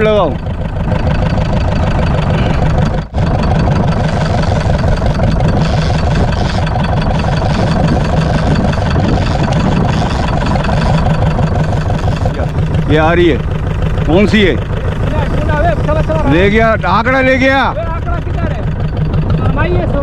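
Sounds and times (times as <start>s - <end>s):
boat diesel engine running: 0.0s - 20.0s.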